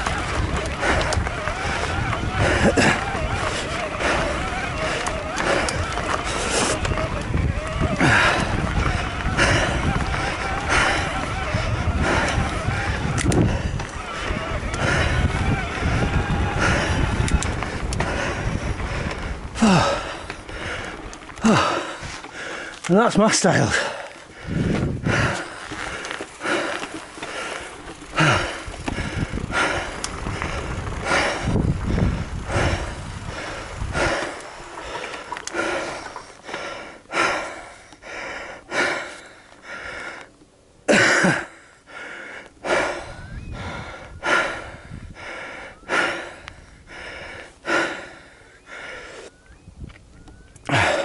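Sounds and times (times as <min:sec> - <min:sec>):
person breathing hard and wheezing: 0:00.0 - 0:22.9, 0:23.7 - 0:40.3, 0:40.9 - 0:49.4, 0:50.6 - 0:51.0.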